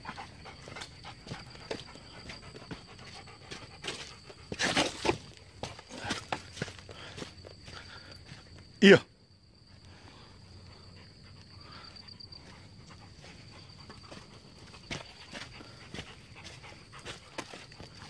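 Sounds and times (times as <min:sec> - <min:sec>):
footsteps on rocky dirt trail: 0:00.1 - 0:08.7, 0:12.2 - 0:18.0.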